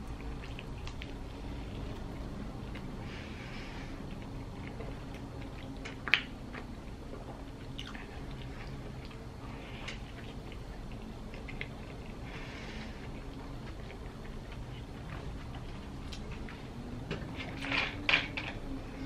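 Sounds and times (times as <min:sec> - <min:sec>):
person chewing: 0:00.0 - 0:03.1, 0:03.9 - 0:16.8
low room tone hum: 0:00.0 - 0:19.0.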